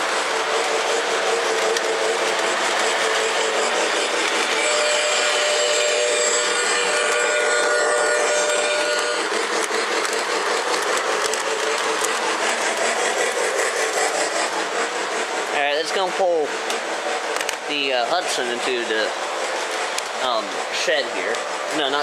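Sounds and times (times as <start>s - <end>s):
model train motor hum: 0.0s - 22.0s
steady whine: 0.0s - 22.0s
wheels rattling on rails: 0.0s - 22.0s.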